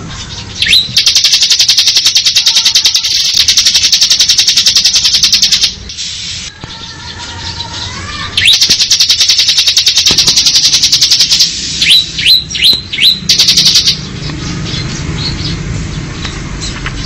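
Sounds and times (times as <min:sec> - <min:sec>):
bird trilling: 0:00.2 - 0:15.6.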